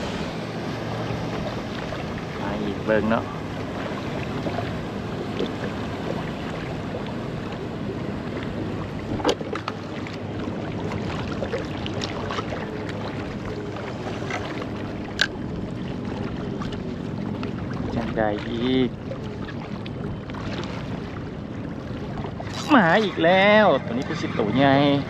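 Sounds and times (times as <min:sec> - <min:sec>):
water lapping against kayak hull: 0:00.0 - 0:25.0.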